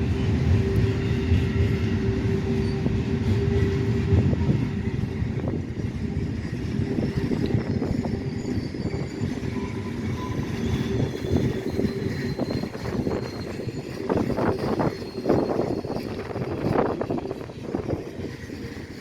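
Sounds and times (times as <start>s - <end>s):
low rumble of trains: 0.0s - 19.0s
train wheel clatter: 0.0s - 19.0s.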